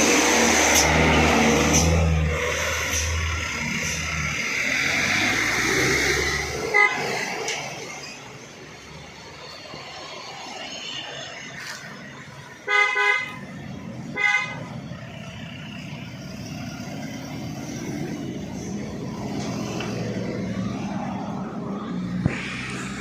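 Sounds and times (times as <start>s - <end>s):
truck engine rumble: 0.0s - 23.0s.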